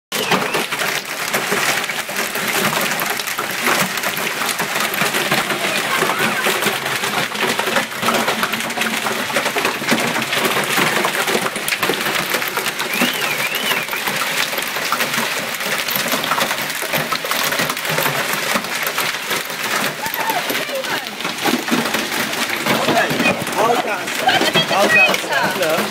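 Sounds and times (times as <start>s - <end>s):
hail clattering on pavement: 0.1s - 25.9s.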